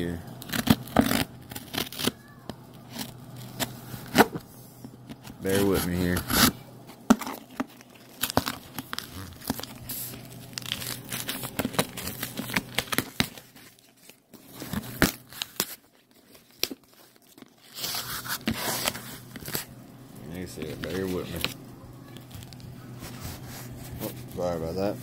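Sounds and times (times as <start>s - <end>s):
packaging torn and crinkled: 0.4s - 4.3s, 5.1s - 19.7s, 20.4s - 22.7s.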